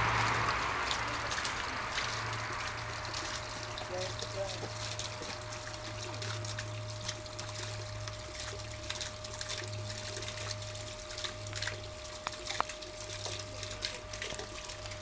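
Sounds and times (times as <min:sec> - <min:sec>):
steady low hum: 0:00.0 - 0:15.0
water trickling and dripping: 0:00.0 - 0:15.0.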